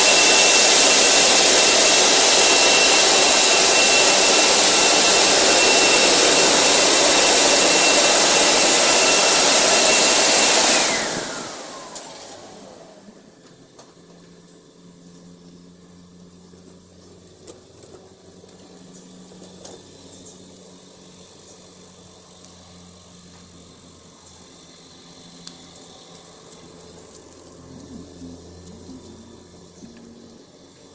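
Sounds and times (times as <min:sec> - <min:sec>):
dryer blowers rushing and whining: 0:00.0 - 0:30.9
motor hum: 0:00.0 - 0:30.9.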